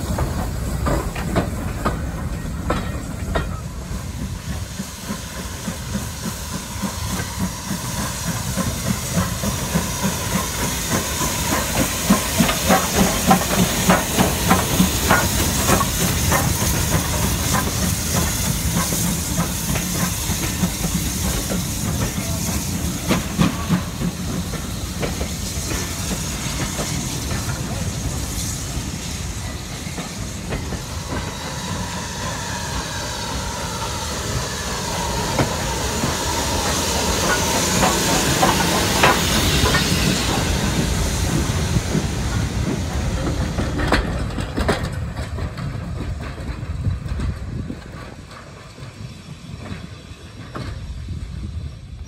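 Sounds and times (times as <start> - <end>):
steam hiss: 0.0 - 52.0
steam train rumble: 0.0 - 52.0.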